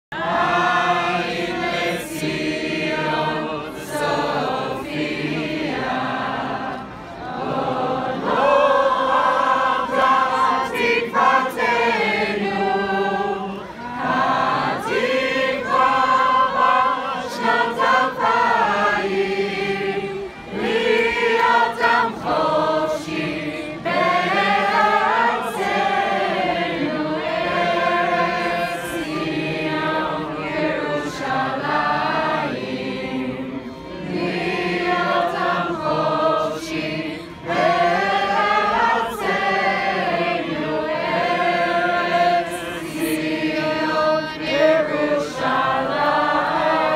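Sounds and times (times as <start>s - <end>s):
crowd singing in chorus: 0.1s - 46.9s.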